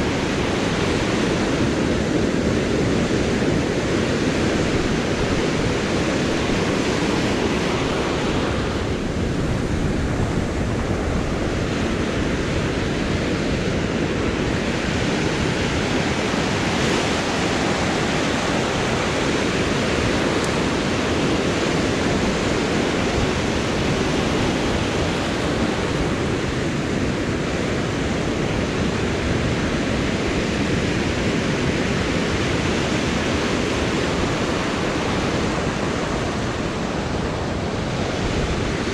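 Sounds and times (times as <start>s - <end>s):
surf breaking on sand: 0.0s - 38.9s.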